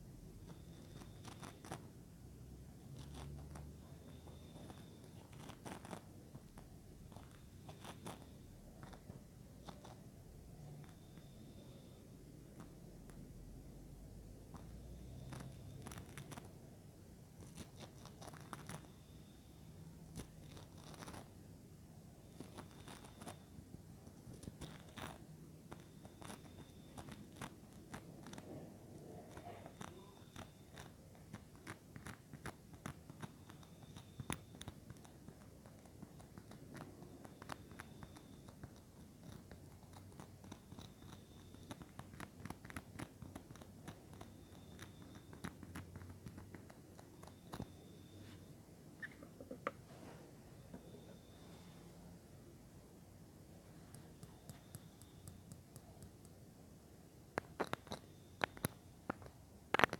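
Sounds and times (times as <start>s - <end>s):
soft clicks and crackles: 0.0s - 13.4s, 14.2s - 16.8s, 17.4s - 21.5s, 22.2s - 49.9s, 53.6s - 59.9s
low steady hum: 0.0s - 59.9s.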